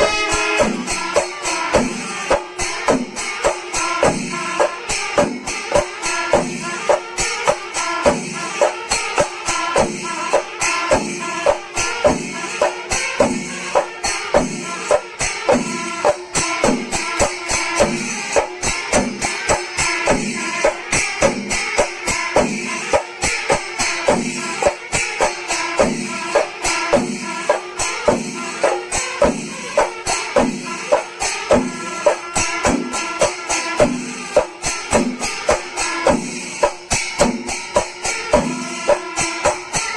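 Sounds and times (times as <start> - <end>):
cymbals clashing: 0.0 - 39.9
drums beating driving rhythm: 0.0 - 39.9.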